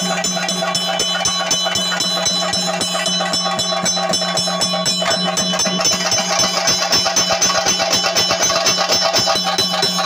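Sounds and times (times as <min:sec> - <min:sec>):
cymbals ringing: 0:00.0 - 0:10.0
drums beaten in fast rolls: 0:00.0 - 0:10.0
steady held tone: 0:00.0 - 0:10.0.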